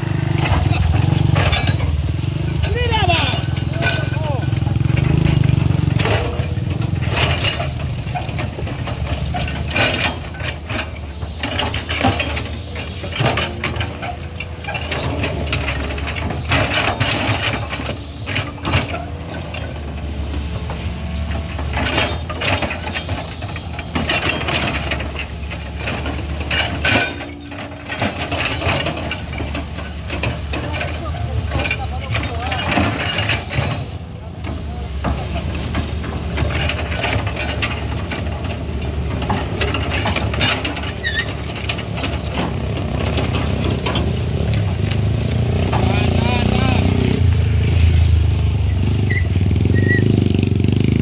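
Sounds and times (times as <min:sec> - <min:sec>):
excavator diesel engine running: 0:00.0 - 0:51.0
short clanks and knocks: 0:00.0 - 0:51.0.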